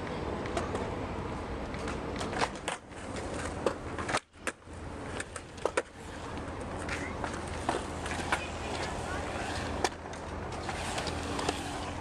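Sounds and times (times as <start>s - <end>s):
longboard wheel rumble on concrete: 0.3s - 12.0s.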